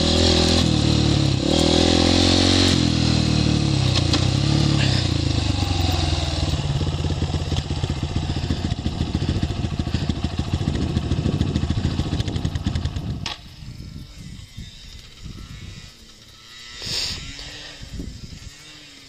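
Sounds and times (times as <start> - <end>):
dirt bike engine idling: 0.0 - 18.7.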